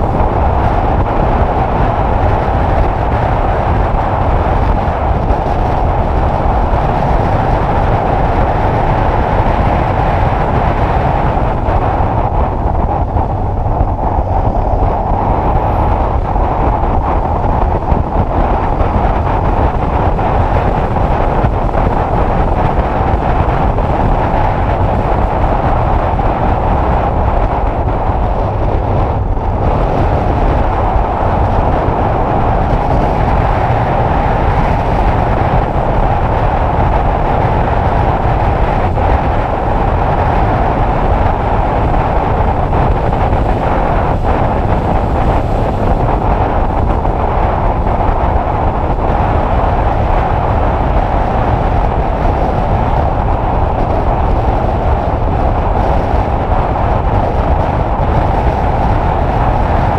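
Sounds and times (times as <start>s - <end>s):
road noise: 0.0s - 59.9s
wind noise on microphone: 0.0s - 59.9s.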